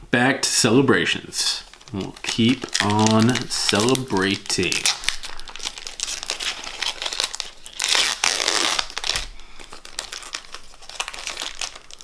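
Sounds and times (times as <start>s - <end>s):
foil wrapper crinkling: 1.6s - 12.0s
foil wrapper ripping: 1.7s - 12.0s.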